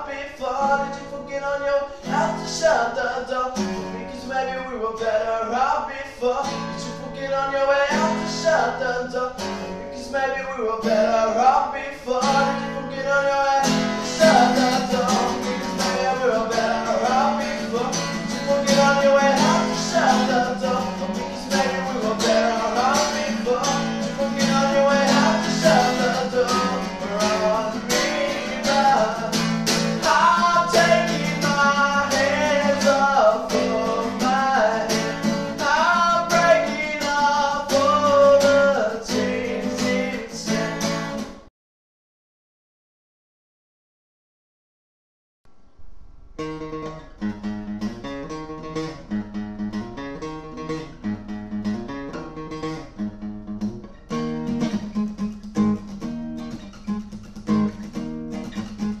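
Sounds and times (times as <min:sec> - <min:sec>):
instrumental guitar music: 0:00.0 - 0:41.5, 0:46.0 - 0:59.0.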